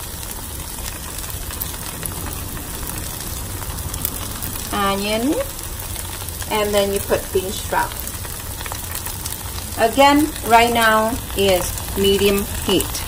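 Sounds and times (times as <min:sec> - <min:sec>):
batter sizzling in a pan: 0:00.0 - 0:13.0.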